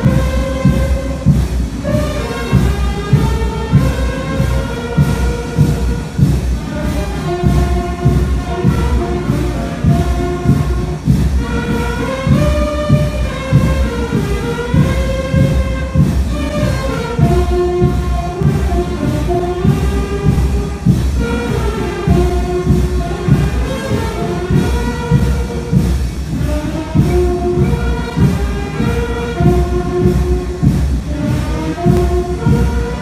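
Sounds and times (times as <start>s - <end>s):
brass band playing a hymn: 0.0s - 33.0s.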